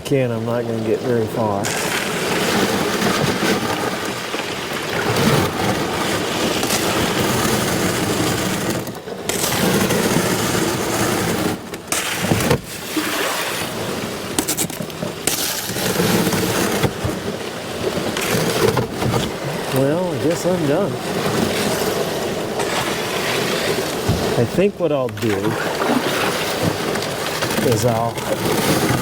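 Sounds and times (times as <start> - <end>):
slush scraping against canoe: 0.0 - 29.0.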